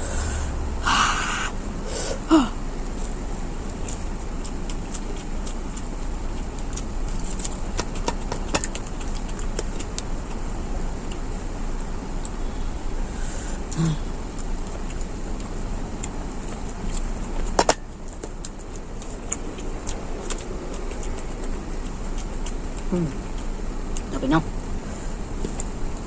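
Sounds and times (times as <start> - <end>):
low background hum: 0.0 - 26.0
mouth chewing clicks: 2.8 - 26.0.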